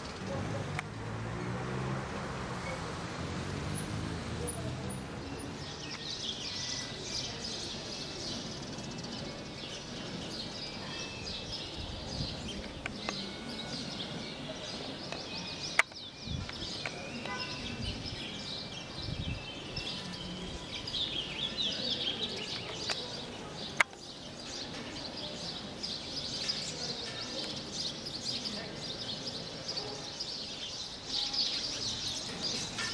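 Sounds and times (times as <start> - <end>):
birds chirping in chorus: 2.2 - 32.9.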